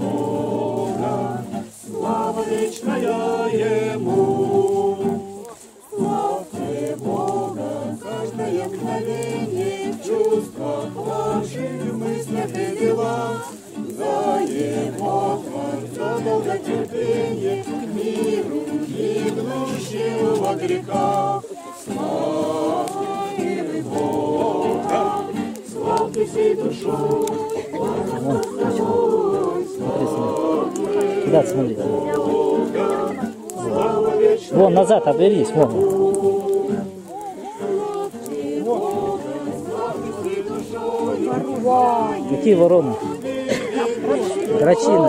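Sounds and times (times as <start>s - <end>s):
group of people singing: 0.0s - 45.0s
strummed acoustic guitar: 0.0s - 45.0s.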